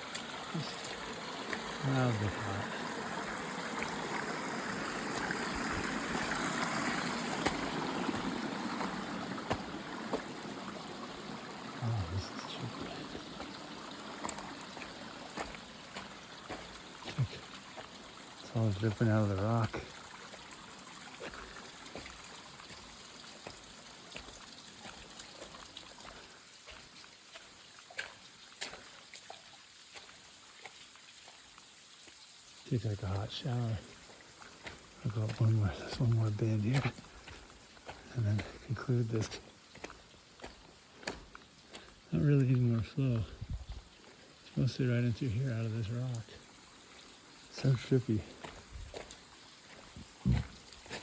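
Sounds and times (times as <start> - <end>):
water running over rock: 0.0 - 51.0.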